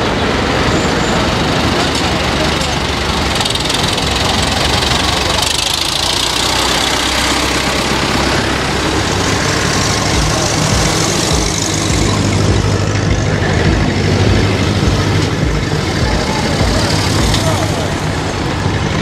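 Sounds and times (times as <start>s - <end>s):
car passing: 0.0s - 19.0s
tractor engine running: 0.0s - 19.0s.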